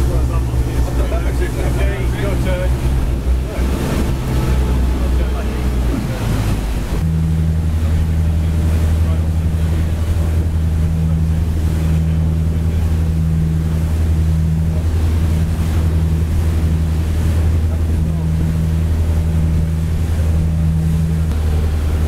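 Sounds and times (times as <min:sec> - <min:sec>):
motorboat engine drone: 0:00.0 - 0:22.0
rush of boat wake: 0:00.0 - 0:22.0
wind buffeting microphone: 0:00.0 - 0:22.0.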